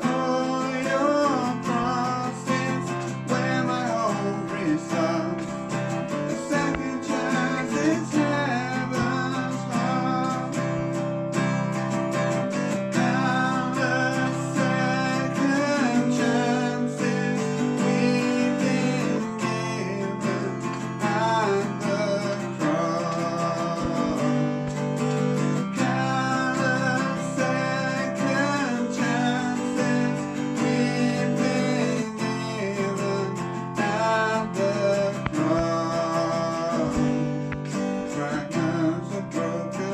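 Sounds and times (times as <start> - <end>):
song with strummed acoustic guitar: 0.0 - 39.9.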